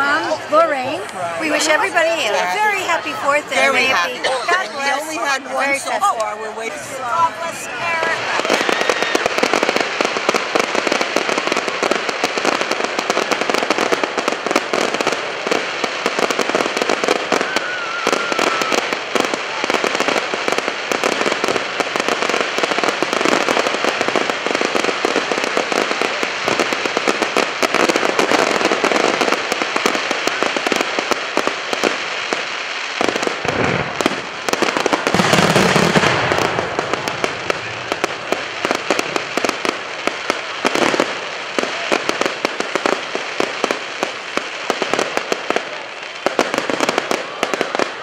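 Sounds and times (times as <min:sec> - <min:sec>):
fireworks crackling: 0:00.0 - 0:48.0.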